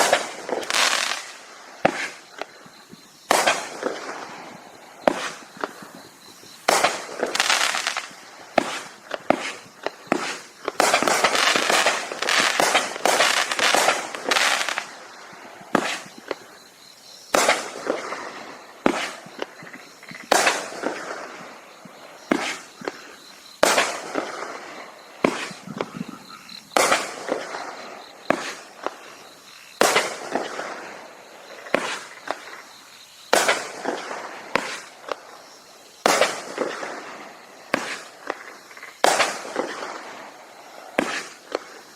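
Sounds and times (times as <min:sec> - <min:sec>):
fireworks bangs: 0:00.0 - 0:16.6, 0:17.2 - 0:29.2, 0:29.8 - 0:32.7, 0:33.3 - 0:41.9
fireworks crackling: 0:00.0 - 0:41.9.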